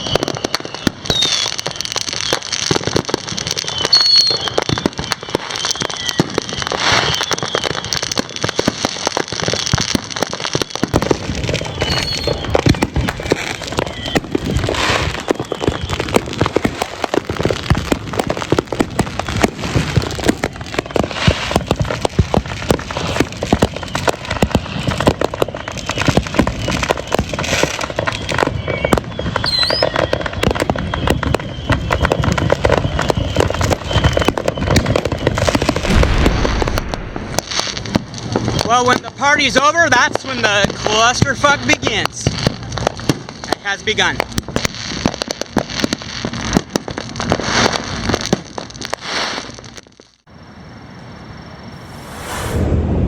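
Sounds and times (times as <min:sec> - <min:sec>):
firecrackers crackling and popping: 0:00.0 - 0:50.3.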